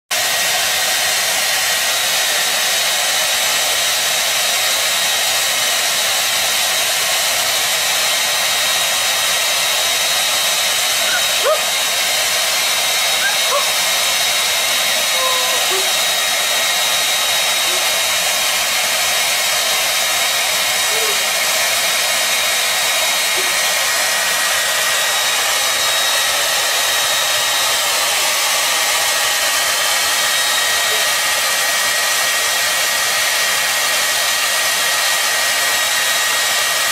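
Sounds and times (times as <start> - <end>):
hair dryer running: 0.1 - 36.9.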